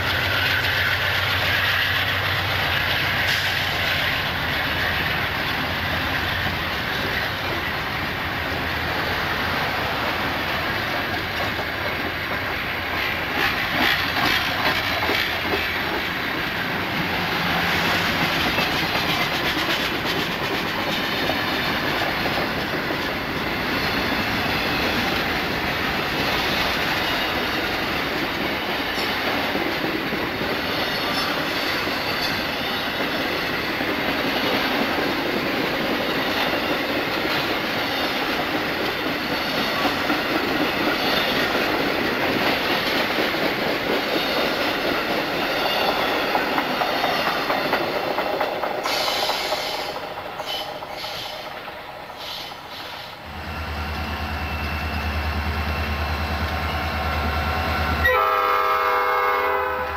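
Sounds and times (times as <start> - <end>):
train wheels rolling on rail: 0.0 - 59.9.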